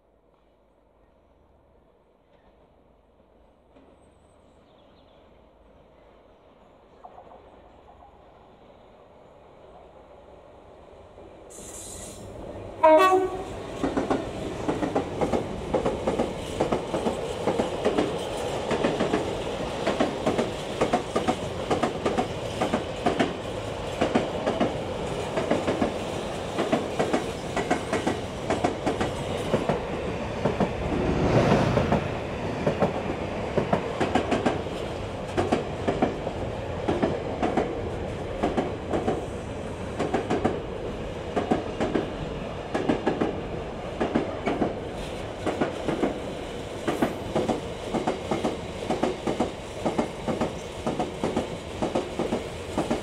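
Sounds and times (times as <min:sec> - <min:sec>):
diesel locomotive passing: 0:07.4 - 0:53.0.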